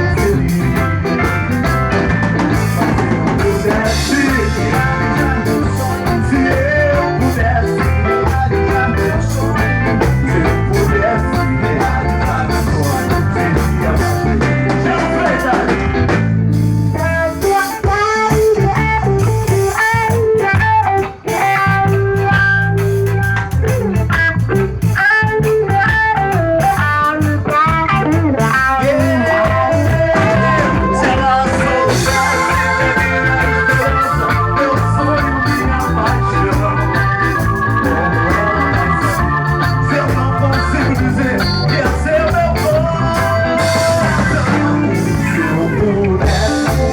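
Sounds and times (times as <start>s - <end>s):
bass: 0.0s - 46.9s
drums: 0.0s - 46.9s
electric guitar melody: 0.0s - 46.9s.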